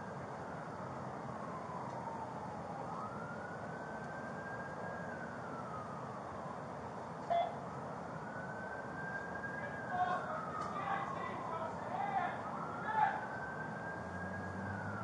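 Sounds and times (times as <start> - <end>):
siren wailing: 0.5 - 15.0.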